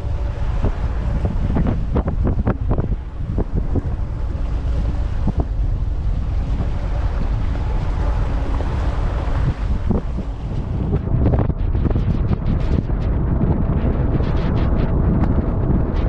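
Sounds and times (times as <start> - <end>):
outboard motor hum: 0.0 - 16.0
wind buffeting microphone: 0.0 - 16.0.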